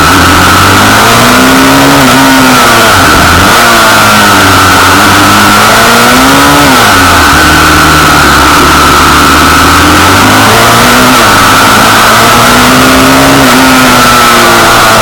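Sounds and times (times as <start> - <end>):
small motorbike engine revving: 0.0 - 15.0.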